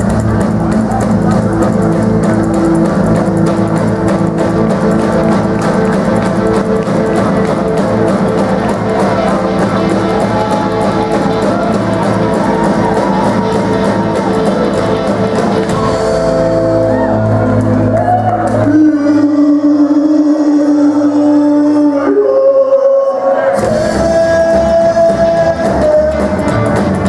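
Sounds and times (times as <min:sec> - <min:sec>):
drum kit: 0:00.0 - 0:19.7, 0:23.6 - 0:27.0
electric guitars: 0:00.0 - 0:20.0, 0:23.6 - 0:27.0
upright bass: 0:00.0 - 0:22.0, 0:23.5 - 0:27.0.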